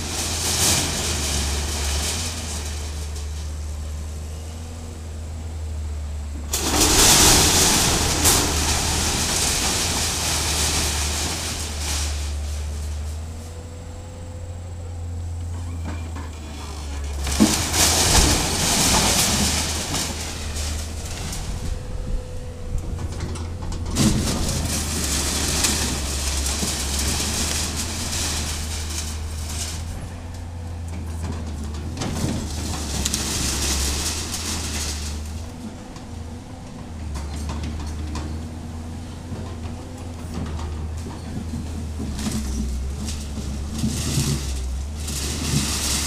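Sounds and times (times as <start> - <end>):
timber and metal roofing crashing: 0.0 - 4.2, 6.4 - 46.0
excavator running: 0.0 - 46.0.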